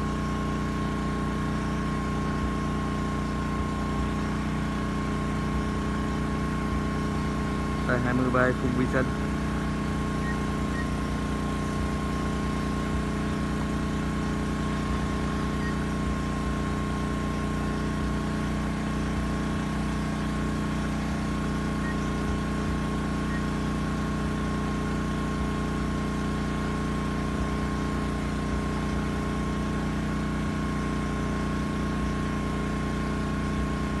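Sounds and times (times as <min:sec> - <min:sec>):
drone propellers humming: 0:00.0 - 0:34.0.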